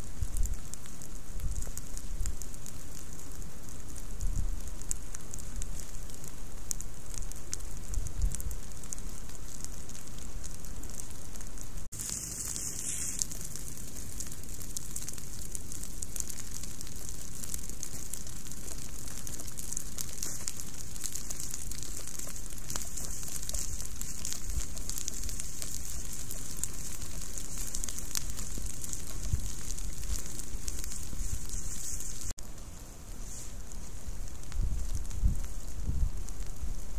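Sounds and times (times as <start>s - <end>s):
fire crackling and popping: 0.0s - 36.9s.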